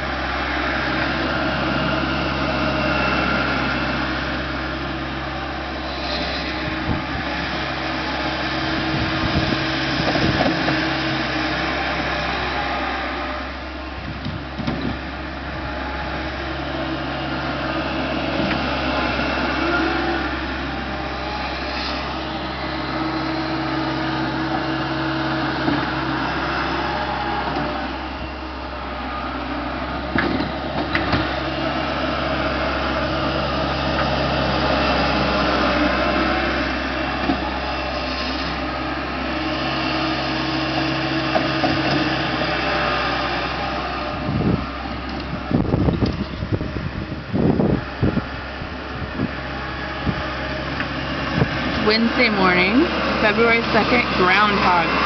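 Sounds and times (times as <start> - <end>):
snow machine engine revving: 0.0 - 55.0.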